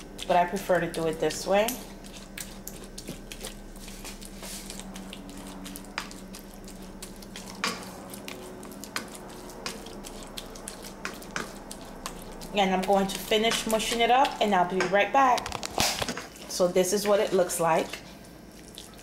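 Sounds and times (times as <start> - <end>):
low hum: 0.0 - 16.0
wet squishing of mashing: 0.0 - 19.0.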